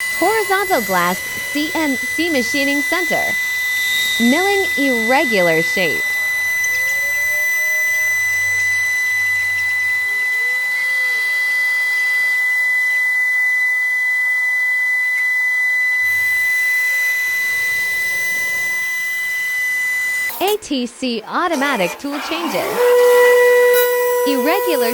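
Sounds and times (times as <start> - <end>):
milling machine high-pitched whine: 0.0 - 20.6, 21.4 - 24.9.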